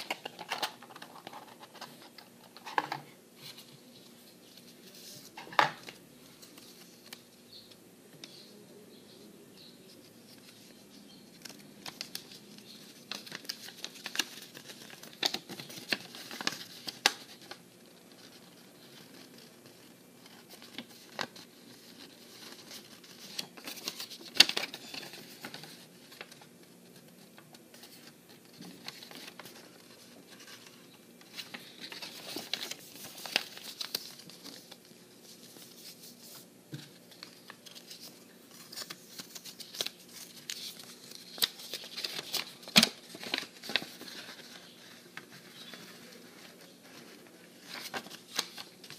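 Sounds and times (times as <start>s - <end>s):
paper rustling and crinkling: 0.0s - 7.3s, 10.0s - 48.9s.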